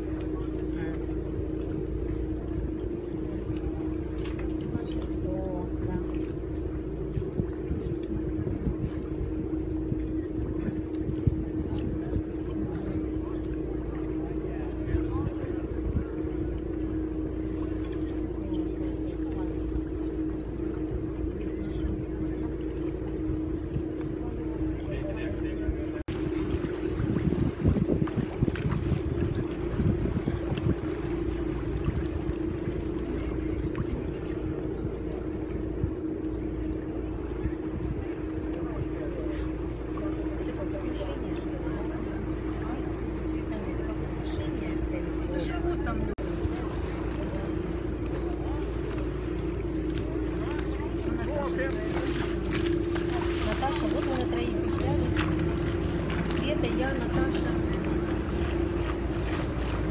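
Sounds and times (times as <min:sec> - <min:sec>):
boat motor humming: 0:00.0 - 0:59.9.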